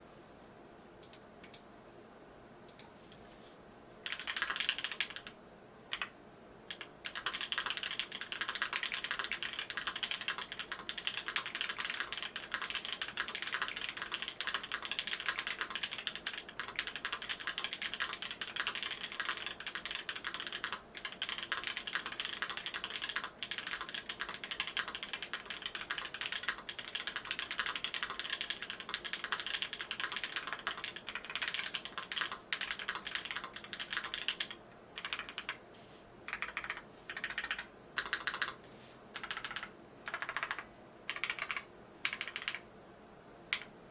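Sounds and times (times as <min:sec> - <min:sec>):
mechanical keyboard typing: 0:04.0 - 0:35.6, 0:36.3 - 0:38.6, 0:39.2 - 0:42.6, 0:43.5 - 0:43.7.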